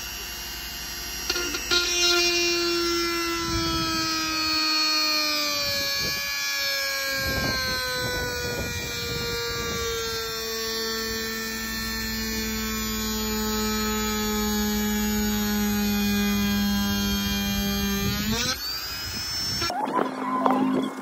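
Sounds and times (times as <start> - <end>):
electric motor whining down: 0.0 - 19.7.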